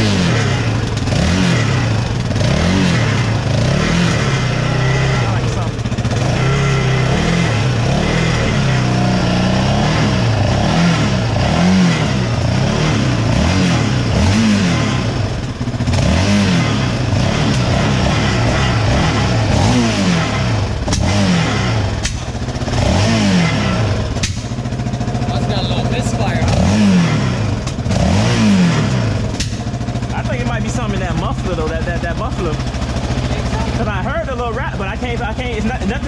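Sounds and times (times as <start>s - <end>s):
engine revving: 0.0s - 36.0s
muffler rattle: 0.0s - 36.0s.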